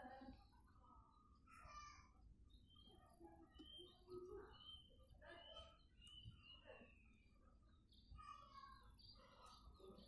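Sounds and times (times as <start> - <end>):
faint high chirps: 0.0 - 10.0.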